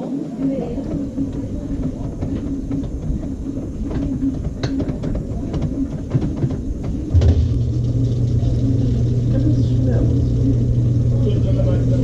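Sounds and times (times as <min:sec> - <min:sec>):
washing machine motor hum: 0:00.2 - 0:12.0.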